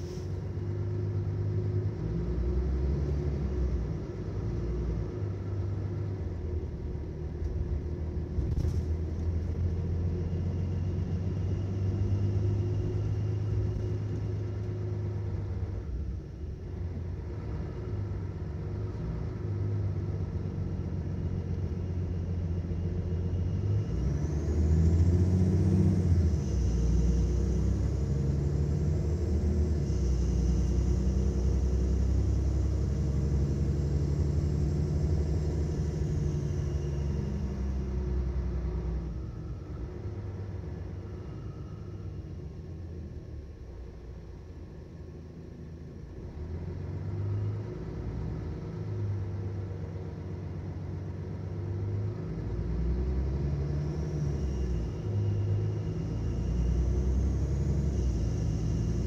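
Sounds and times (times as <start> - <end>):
bus diesel engine drone: 0.0 - 59.0
faint rising whine: 2.0 - 59.0.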